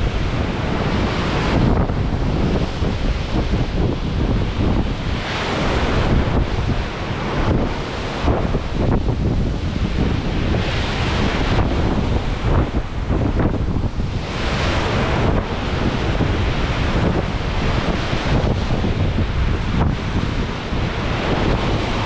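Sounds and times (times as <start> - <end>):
waves rushing past ship: 0.0 - 22.0
wind buffeting microphone: 0.0 - 22.0.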